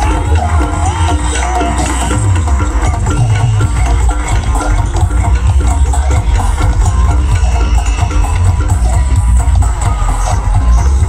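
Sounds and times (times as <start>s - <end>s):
loud bass-heavy music from loudspeakers: 0.0s - 11.0s.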